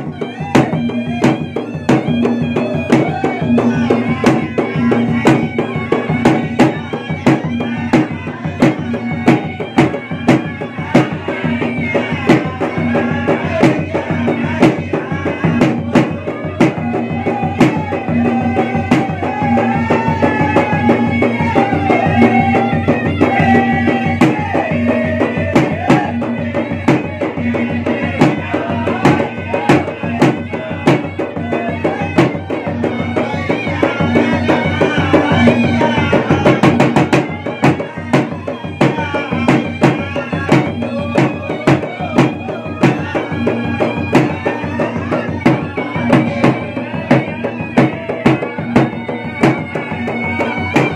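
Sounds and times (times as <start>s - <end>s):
barrel drums fast rhythm: 0.0s - 50.9s
reedy shawm melody: 0.0s - 50.9s.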